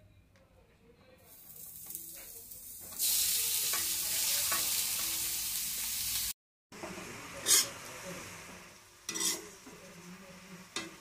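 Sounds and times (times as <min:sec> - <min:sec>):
carrots sizzling in hot fat: 0:01.3 - 0:11.0.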